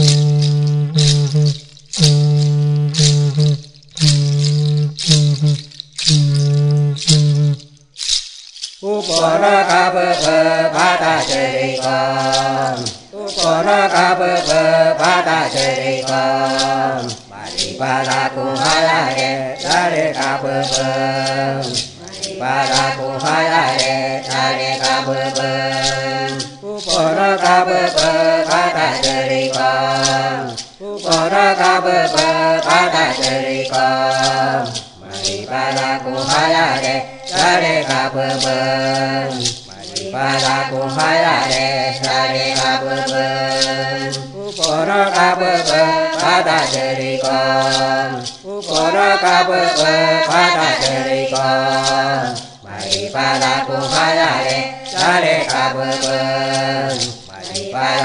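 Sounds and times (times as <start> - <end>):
sharp percussive strokes: 0.0 - 58.0
voices chanting: 8.8 - 58.0.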